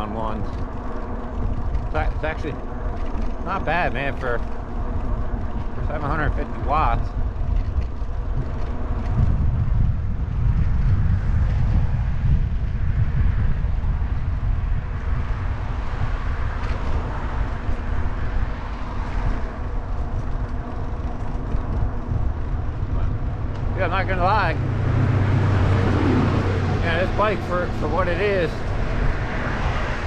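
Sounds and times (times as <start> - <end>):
bike tires rolling rumble: 0.0 - 30.0
wind buffeting microphone: 0.0 - 30.0.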